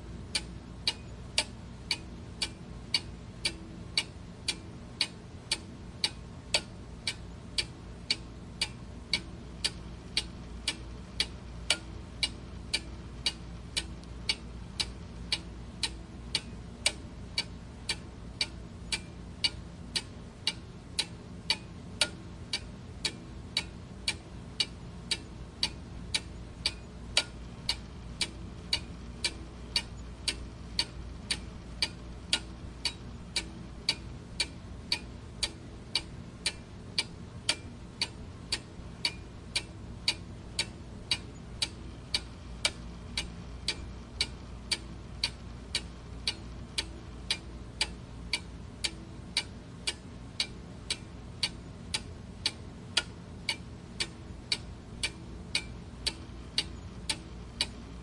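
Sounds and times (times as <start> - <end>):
low background hum: 0.0 - 58.0
clock ticking: 0.3 - 58.0.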